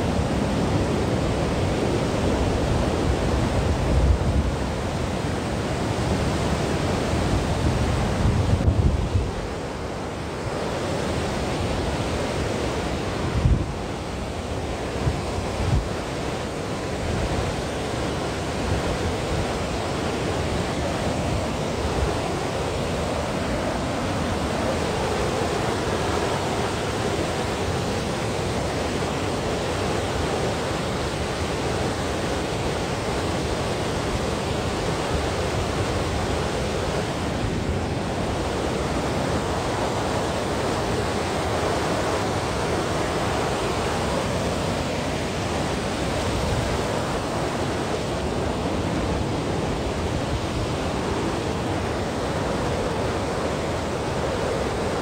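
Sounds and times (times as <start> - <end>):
waterfall roaring over rocks: 0.0 - 55.0.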